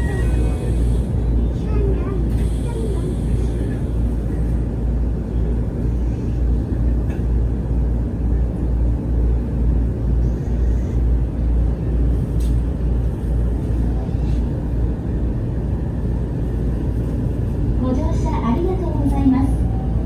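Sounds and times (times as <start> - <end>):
electric train interior rumble: 0.0 - 20.0.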